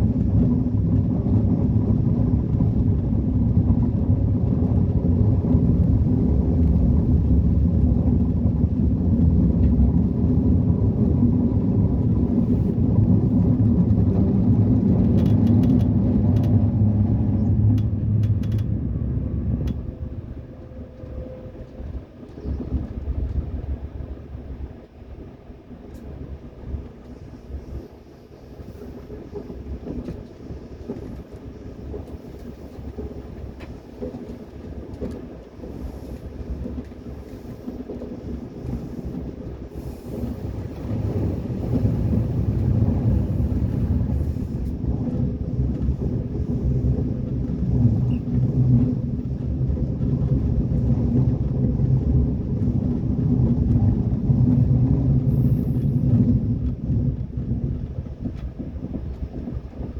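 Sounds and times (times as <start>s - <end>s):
rail clicks: 0.0s - 59.9s
train rumbling on rails: 0.0s - 59.9s.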